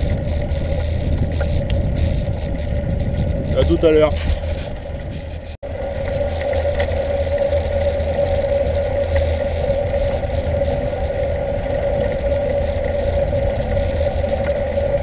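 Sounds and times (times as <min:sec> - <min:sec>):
bike tyres humming on asphalt: 0:00.0 - 0:15.0
wind rumble on microphone: 0:00.0 - 0:15.0.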